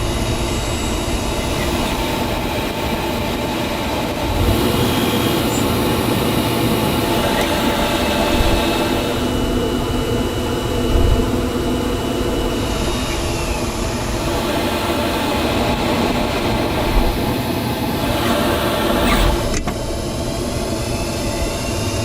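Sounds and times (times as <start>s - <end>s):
lathe running with whining tones: 0.0s - 22.0s.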